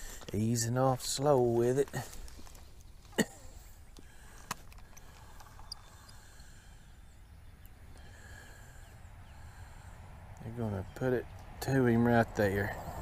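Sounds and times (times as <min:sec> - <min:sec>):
faint outdoor hush: 0:00.0 - 0:13.0.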